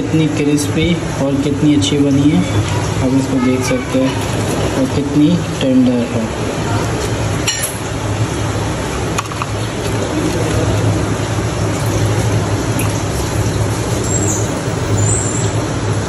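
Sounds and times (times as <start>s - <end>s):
hissing background noise with hum: 0.0s - 16.0s.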